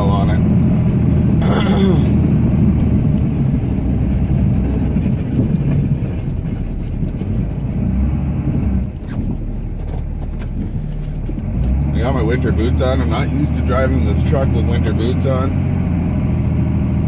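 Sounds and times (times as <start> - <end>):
diesel truck engine running: 0.0 - 17.0
plow blade scraping pavement: 0.0 - 17.0.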